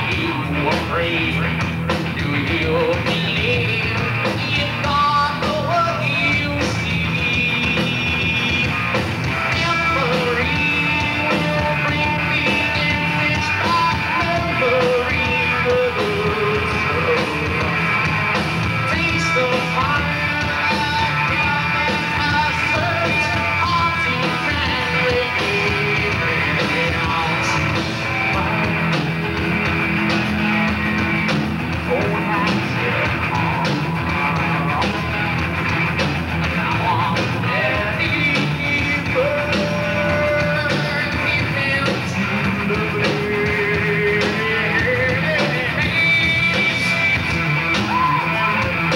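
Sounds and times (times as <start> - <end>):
person singing: 0.0 - 18.0, 18.6 - 35.4, 36.4 - 48.9
rock band playing: 0.0 - 48.9.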